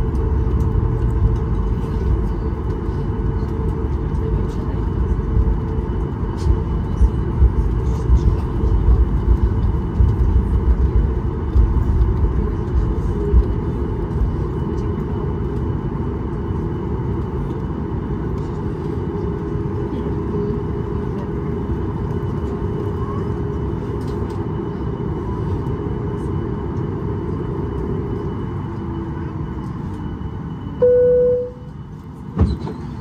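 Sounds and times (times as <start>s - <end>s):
airplane cabin rumble while taxiing: 0.0s - 33.0s.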